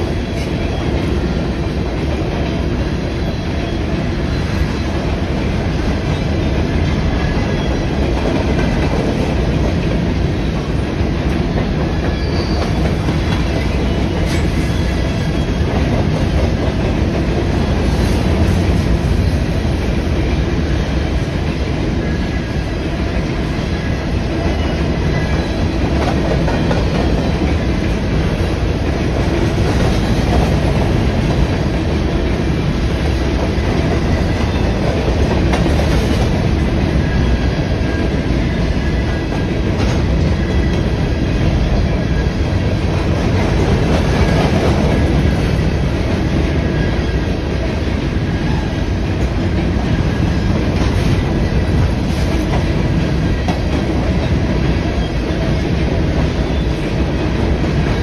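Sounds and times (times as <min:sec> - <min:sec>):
freight train rolling past: 0:00.0 - 0:58.0
steel wheels clattering on rails: 0:00.0 - 0:58.0.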